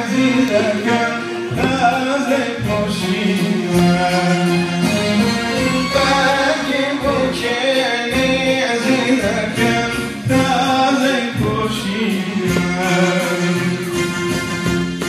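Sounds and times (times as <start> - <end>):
man singing: 0.0 - 14.1
keyboard accompaniment: 0.0 - 15.0.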